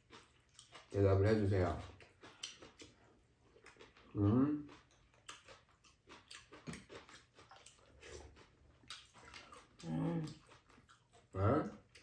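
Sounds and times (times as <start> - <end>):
mouth sounds of eating: 0.0 - 12.0.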